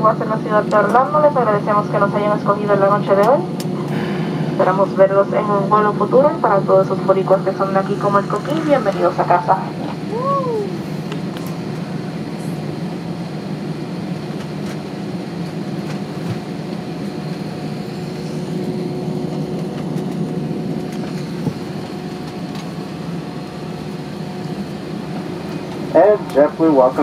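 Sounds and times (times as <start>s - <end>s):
aircraft cabin drone: 0.0s - 27.0s.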